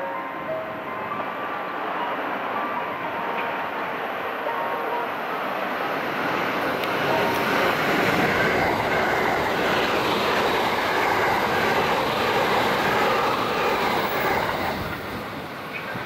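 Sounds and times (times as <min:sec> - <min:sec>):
train passing at speed: 0:00.0 - 0:16.0
wheels rushing on rail: 0:00.0 - 0:16.0.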